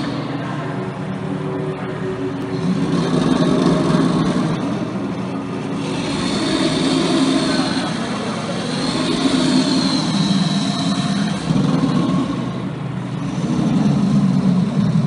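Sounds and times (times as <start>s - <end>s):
noise machines droning: 0.0s - 15.0s.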